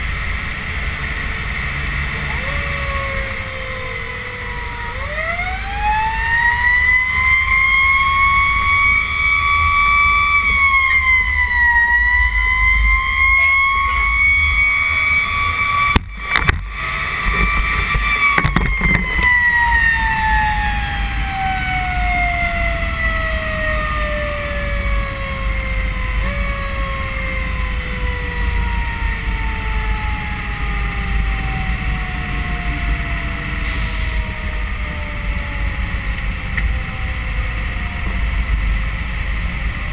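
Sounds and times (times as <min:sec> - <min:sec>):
truck engine rumbling: 0:00.0 - 0:39.9
fire truck siren: 0:00.8 - 0:39.9.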